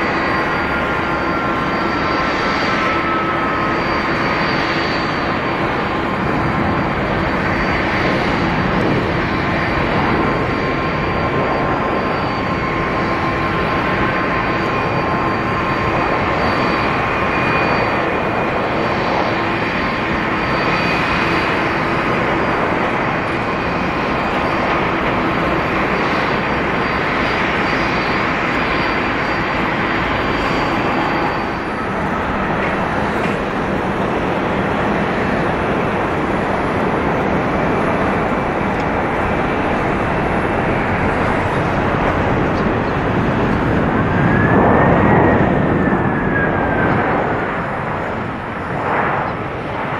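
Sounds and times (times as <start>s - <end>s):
faint high whining tones: 0.0s - 49.5s
jet engines roaring: 0.0s - 49.9s.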